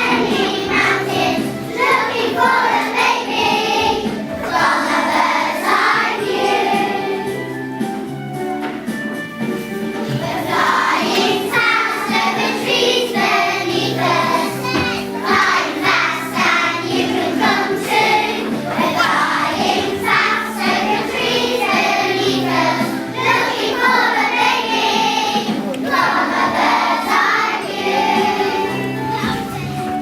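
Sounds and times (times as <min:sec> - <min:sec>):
choir singing: 0:00.0 - 0:07.6, 0:10.1 - 0:29.4.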